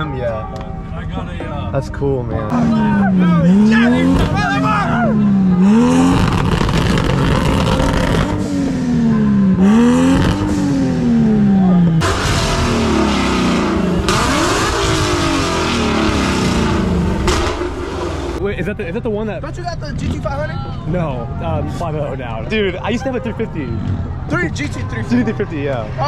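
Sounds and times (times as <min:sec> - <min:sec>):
car engines revving: 0:00.0 - 0:26.0
exhaust crackling: 0:01.9 - 0:23.0.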